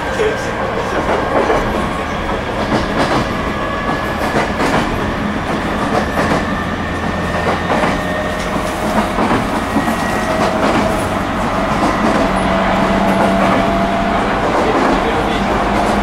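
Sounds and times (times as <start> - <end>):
train inverter and motor whine: 0.0 - 16.0
train rumble: 0.0 - 16.0.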